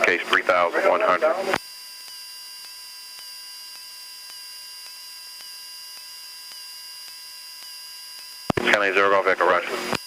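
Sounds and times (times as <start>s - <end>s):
electrical hum and whine: 0.0s - 10.0s.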